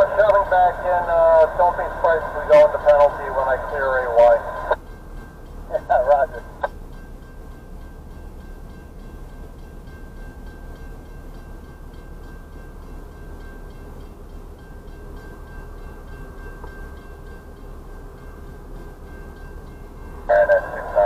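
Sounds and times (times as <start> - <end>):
freight train low rumble: 0.0 - 21.0.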